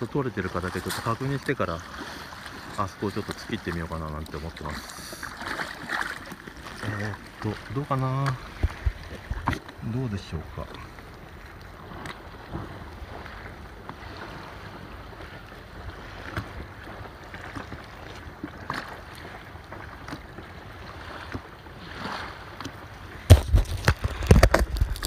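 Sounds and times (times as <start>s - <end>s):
light wind: 0.0s - 25.0s
water lapping against paddleboard: 0.0s - 25.0s.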